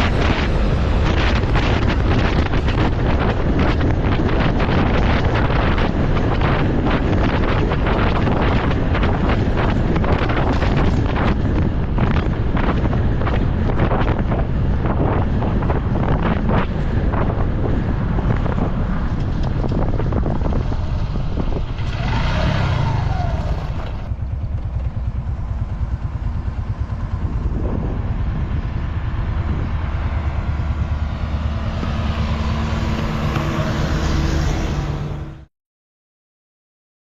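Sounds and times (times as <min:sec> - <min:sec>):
motorcycle engine running: 0:00.0 - 0:35.4
wind noise on microphone: 0:00.0 - 0:35.5.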